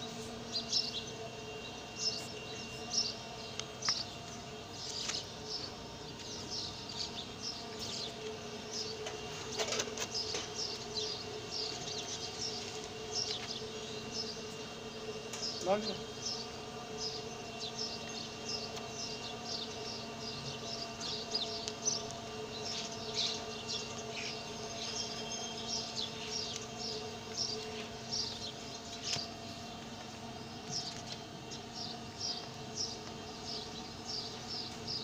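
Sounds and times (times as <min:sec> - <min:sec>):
steady low hum: 0:00.0 - 0:35.0
small birds chirping: 0:00.2 - 0:35.0.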